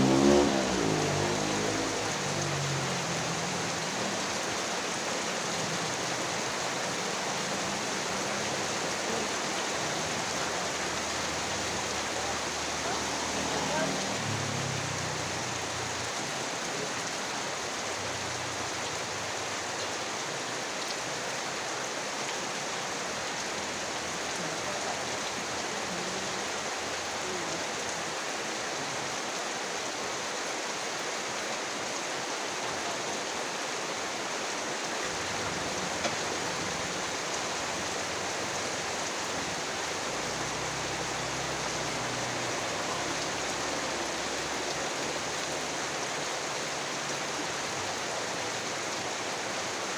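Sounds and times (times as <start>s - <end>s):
heavy rain downpour: 0.0s - 49.9s.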